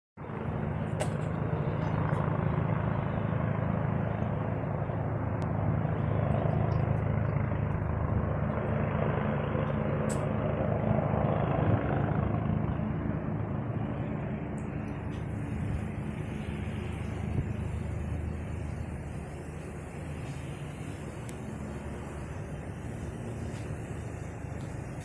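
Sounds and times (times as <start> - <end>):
helicopter flying overhead: 0.2 - 25.0.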